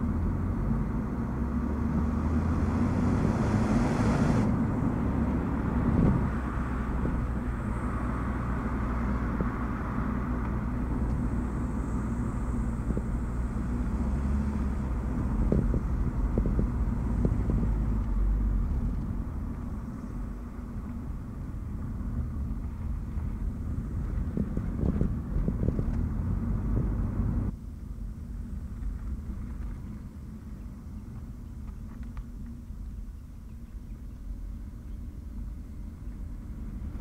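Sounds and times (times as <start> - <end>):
car road and drivetrain drone: 0.0 - 37.0.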